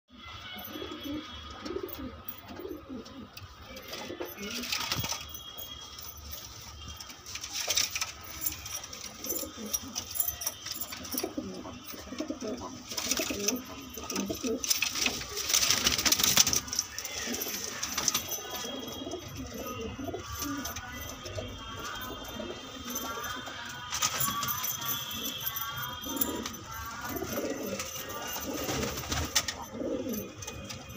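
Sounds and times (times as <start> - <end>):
pigeons cooing: 0.6 - 5.9, 7.4 - 30.9.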